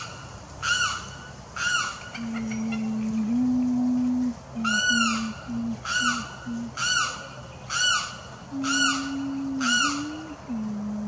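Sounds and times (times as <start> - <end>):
bird calling in pitched cries: 0.0 - 10.7.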